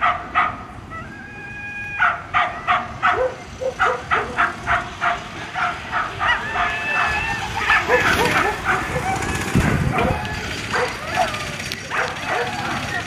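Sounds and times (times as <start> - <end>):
dogs yelping: 0.0 - 13.0
dogs whining: 0.4 - 13.0.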